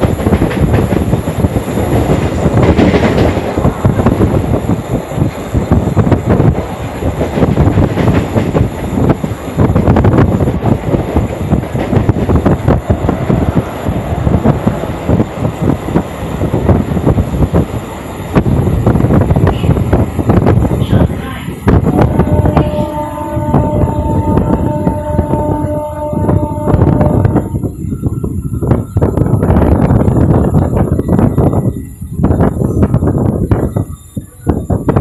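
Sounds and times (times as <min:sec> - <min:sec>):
train coach shaking: 0:00.0 - 0:35.0
train wheels rattling on rails: 0:00.0 - 0:35.0.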